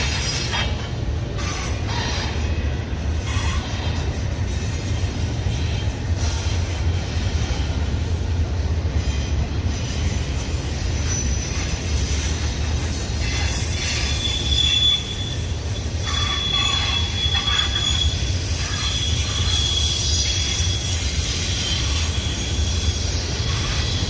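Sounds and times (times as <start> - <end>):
freight train rumbling past: 0.0 - 24.0
train wheels squealing: 0.0 - 24.0.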